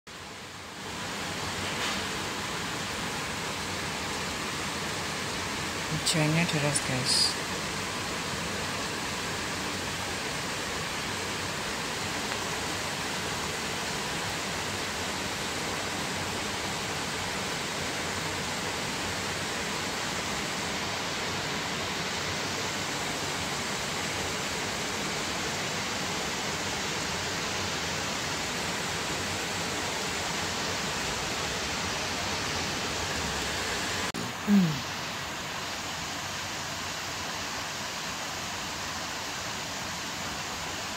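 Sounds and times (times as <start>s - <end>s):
heavy rain downpour: 0.1s - 40.9s.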